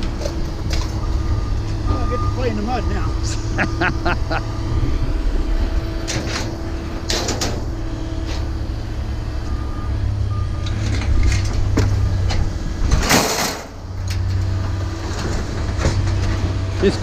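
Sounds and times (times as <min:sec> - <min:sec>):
large vehicle engine running: 0:00.0 - 0:17.0.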